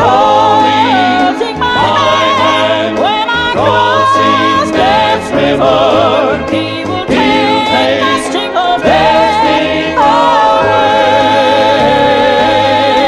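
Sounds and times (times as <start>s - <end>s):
vocal group singing in harmony: 0.0s - 13.0s.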